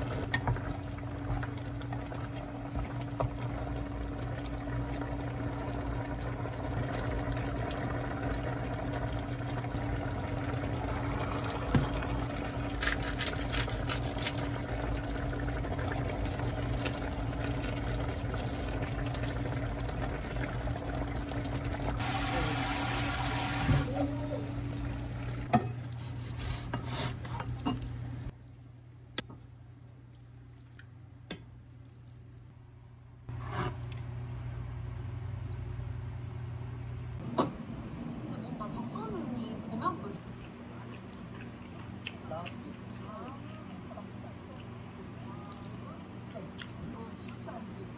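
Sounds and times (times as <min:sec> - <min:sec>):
food simmering and bubbling: 0:00.0 - 0:34.1, 0:37.2 - 0:47.9.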